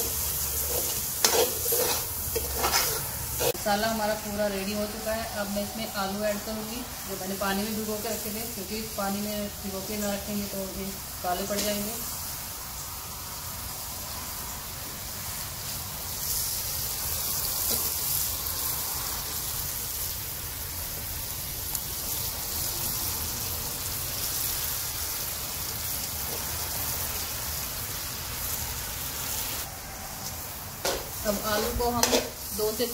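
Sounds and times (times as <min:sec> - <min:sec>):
potatoes sizzling in hot oil: 0:00.0 - 0:32.9.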